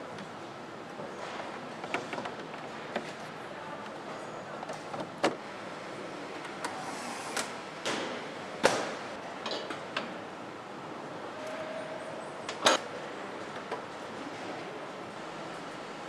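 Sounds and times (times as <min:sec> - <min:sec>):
factory background hum: 0:00.0 - 0:16.0.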